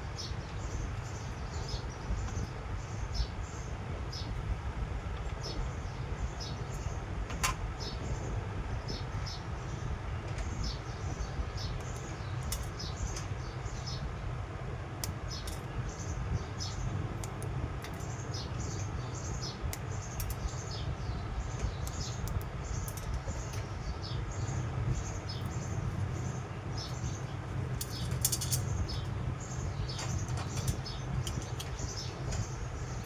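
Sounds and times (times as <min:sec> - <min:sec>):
small birds chirping: 0:00.0 - 0:04.4, 0:05.2 - 0:14.2, 0:14.9 - 0:33.0
steady low hum: 0:00.0 - 0:33.0.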